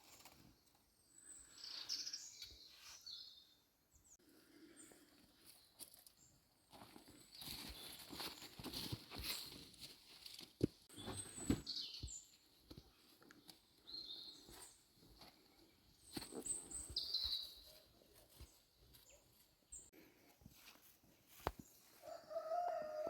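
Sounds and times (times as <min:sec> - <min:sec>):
small birds chirping: 0:00.0 - 0:09.6, 0:10.2 - 0:20.2.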